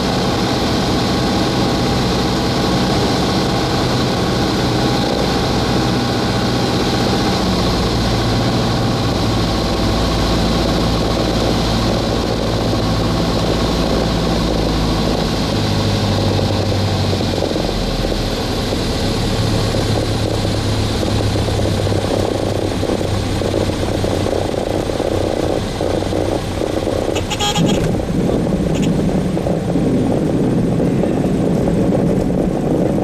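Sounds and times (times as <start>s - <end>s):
propeller plane engine drone: 0.0s - 33.0s.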